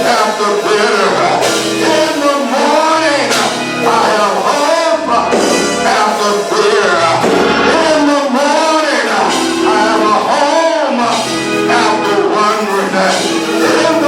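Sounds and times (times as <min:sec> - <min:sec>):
gospel singing with accompaniment: 0:00.0 - 0:14.0.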